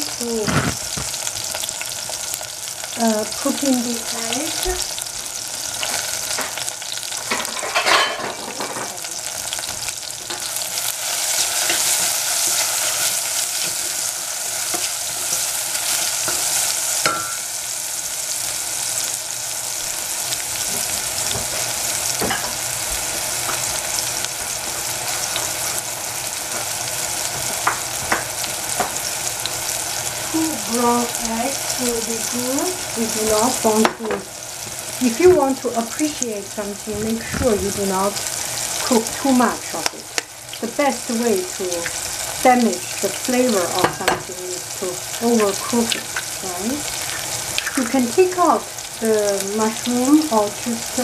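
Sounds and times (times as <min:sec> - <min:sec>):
mushrooms sizzling in oil: 0:00.0 - 0:51.0.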